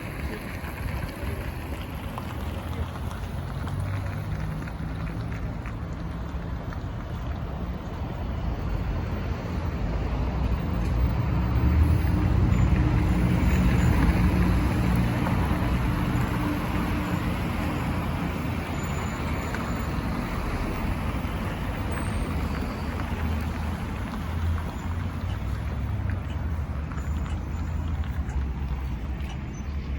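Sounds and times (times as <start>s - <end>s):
hum of city traffic: 0.0s - 29.9s
vehicle engine passing: 0.1s - 29.9s.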